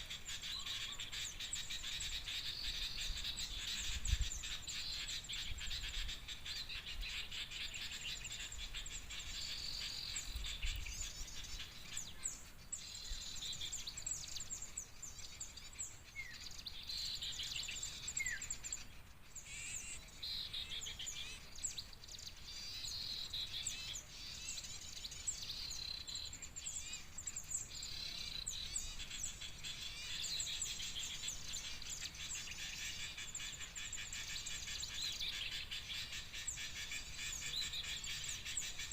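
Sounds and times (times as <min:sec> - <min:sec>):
small birds chattering: 0:00.0 - 0:38.9.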